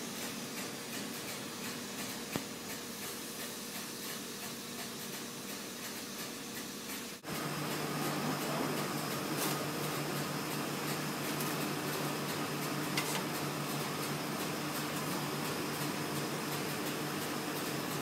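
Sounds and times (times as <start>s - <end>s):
printing press mechanical whir: 0.0s - 18.0s.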